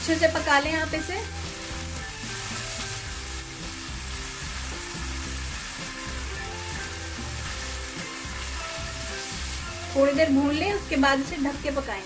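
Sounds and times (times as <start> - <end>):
vegetables sizzling in hot oil: 0.0 - 12.0
spatula stirring in pan: 0.4 - 10.9.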